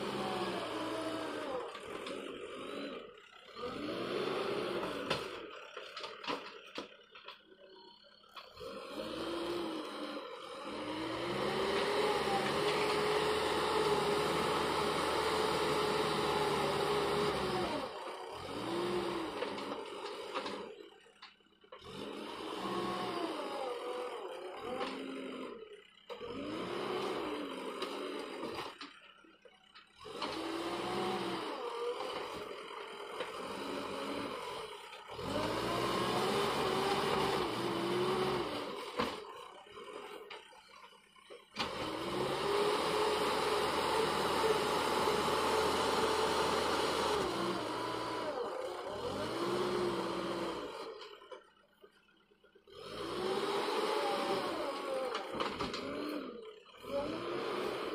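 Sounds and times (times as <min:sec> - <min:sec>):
diesel engine revving: 0:00.0 - 0:51.4, 0:52.7 - 0:57.9.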